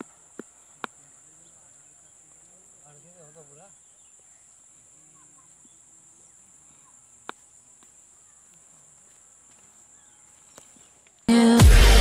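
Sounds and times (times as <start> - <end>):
faint distant voices: 0.1 - 11.0.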